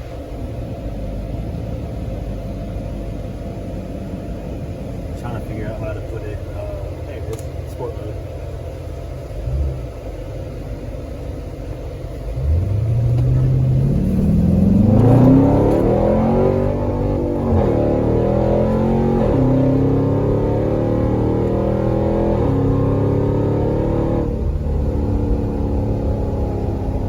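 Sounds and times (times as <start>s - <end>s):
car engine idling and accelerating: 0.0s - 27.0s.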